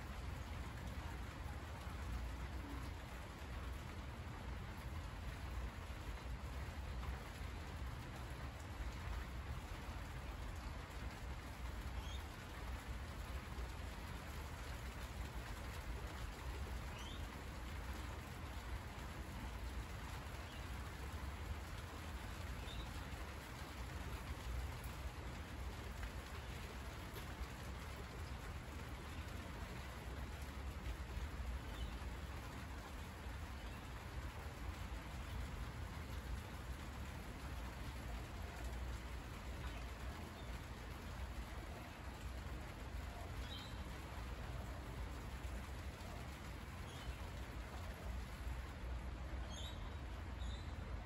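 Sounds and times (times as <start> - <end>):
rain on leaves: 0.0 - 51.0.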